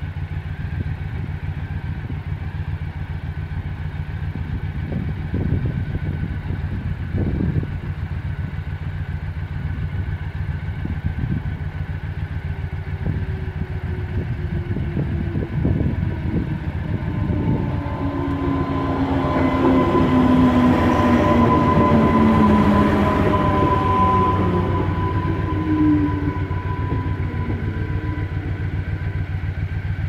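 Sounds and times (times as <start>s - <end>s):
low rumble of road traffic: 0.0s - 30.0s
train passing with whine: 0.0s - 30.0s.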